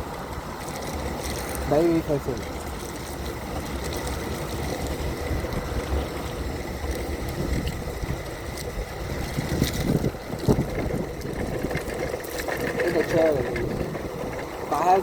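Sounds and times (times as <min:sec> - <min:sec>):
faint steady whine: 0:00.0 - 0:15.0
wheelchair motor and tyres rumbling: 0:00.0 - 0:15.0.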